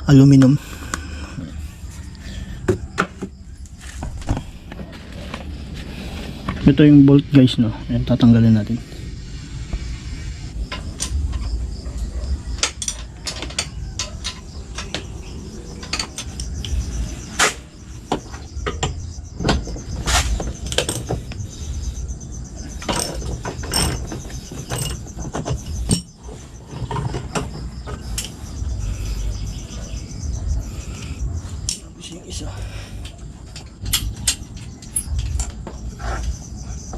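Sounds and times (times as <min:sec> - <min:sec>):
low handling rumble: 0:00.0 - 0:36.9.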